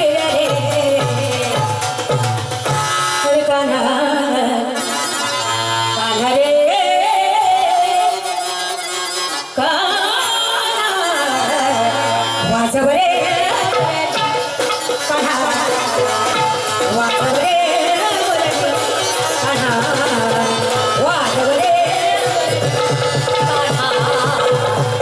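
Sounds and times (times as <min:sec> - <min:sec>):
folk song with instruments: 0:00.0 - 0:25.0.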